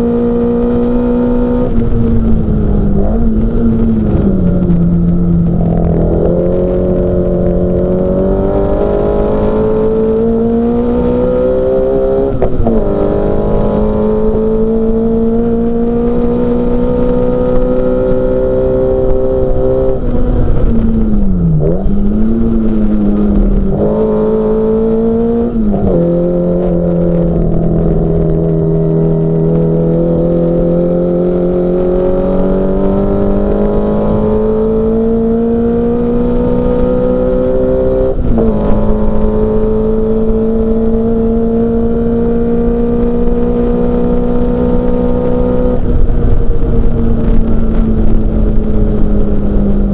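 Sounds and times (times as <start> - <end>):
racing car engine revving: 0.0 - 49.9.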